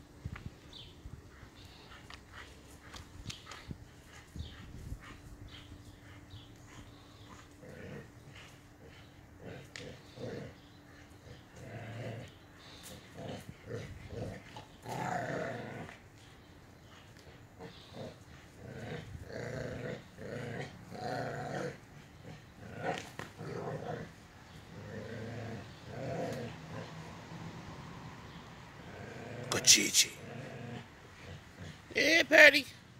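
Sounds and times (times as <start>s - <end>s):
dogs play-growling: 0.7s - 29.6s, 30.2s - 31.9s.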